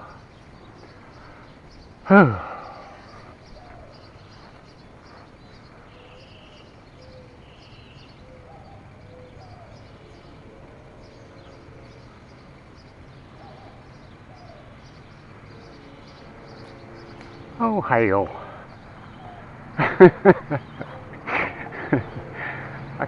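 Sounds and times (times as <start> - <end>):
birds chirping: 0.0 - 23.0
low outdoor rumble: 0.0 - 23.0.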